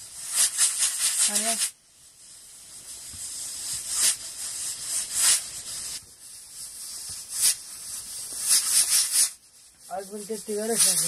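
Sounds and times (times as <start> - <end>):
soft hiss: 0.0 - 11.0.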